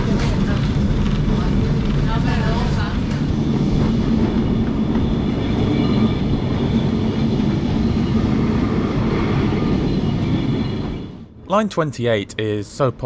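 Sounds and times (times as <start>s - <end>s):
tram motor and wheels on rails: 0.0s - 11.7s.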